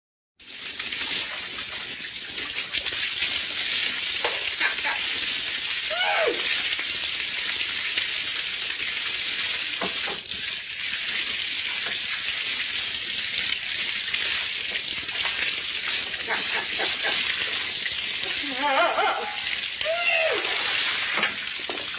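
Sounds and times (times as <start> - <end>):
water spraying from pipe: 0.4 - 21.9.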